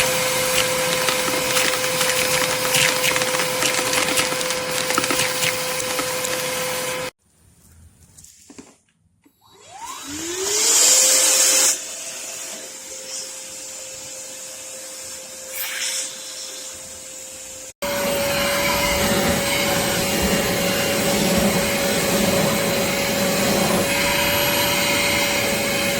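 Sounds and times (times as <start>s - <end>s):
shop vacuum motor whine: 0.0s - 7.1s, 9.4s - 25.9s.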